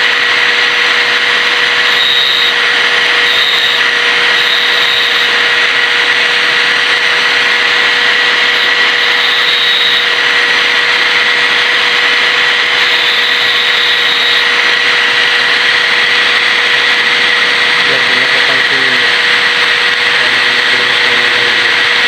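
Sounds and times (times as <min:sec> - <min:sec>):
power grinder whining: 0:00.0 - 0:22.0.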